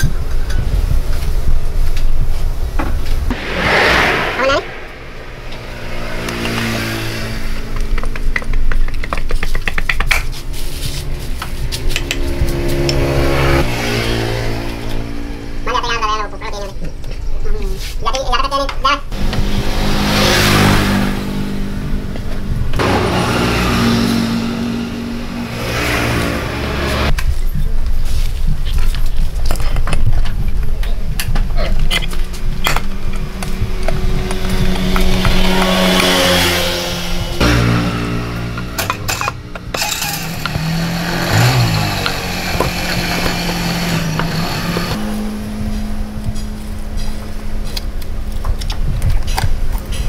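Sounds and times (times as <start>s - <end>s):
vehicle engine running and revving: 3.3s - 16.2s, 19.1s - 27.2s, 30.8s - 50.0s.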